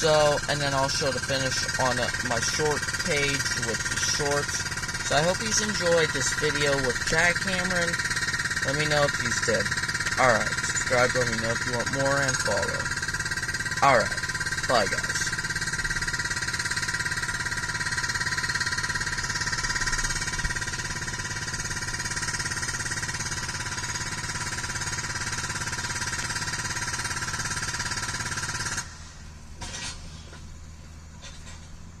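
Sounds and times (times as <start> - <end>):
hydraulic breaker hammering rock: 0.0 - 29.0
excavator engine running: 0.0 - 32.0.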